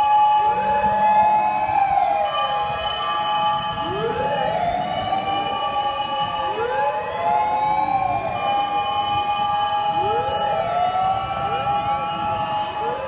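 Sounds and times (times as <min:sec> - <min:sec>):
fire engine sirens wailing: 0:00.0 - 0:13.0.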